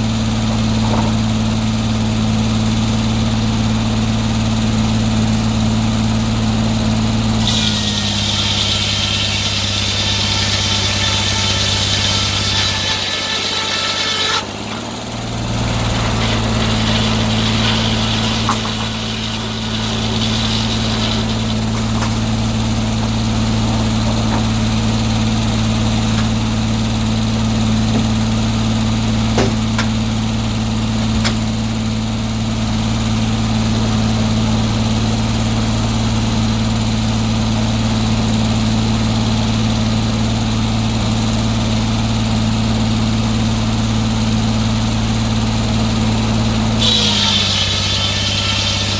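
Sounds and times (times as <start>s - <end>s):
sawmill engine running: 0.0s - 48.9s.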